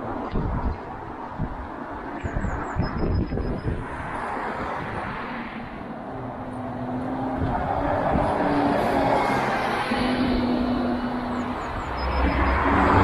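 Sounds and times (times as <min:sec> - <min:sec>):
bus passing: 0:00.0 - 0:13.0
engine hum: 0:00.0 - 0:13.0.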